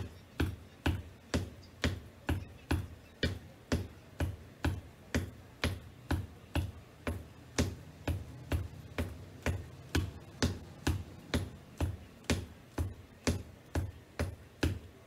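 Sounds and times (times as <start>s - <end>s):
boots tapping on wooden floor: 0.0s - 14.9s.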